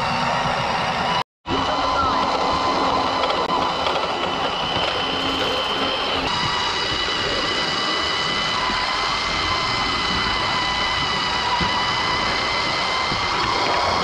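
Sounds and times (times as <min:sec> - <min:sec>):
wheels rumbling on rails: 0:00.0 - 0:14.0
model train motor whine: 0:01.5 - 0:14.0.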